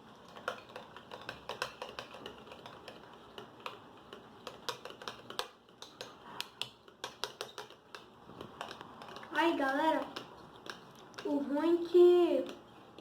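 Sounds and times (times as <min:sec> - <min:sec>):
utensil clicking against container: 0:00.3 - 0:11.3.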